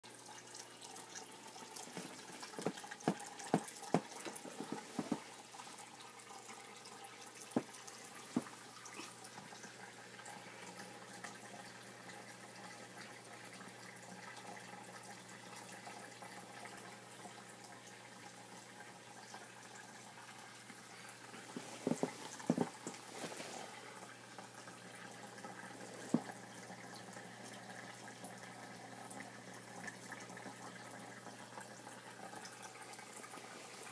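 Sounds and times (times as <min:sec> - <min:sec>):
water trickling and splashing: 0:00.0 - 0:33.9.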